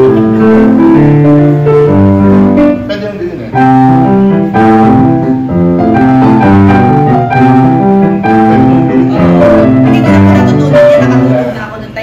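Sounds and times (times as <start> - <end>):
grand piano playing: 0.0 - 12.0.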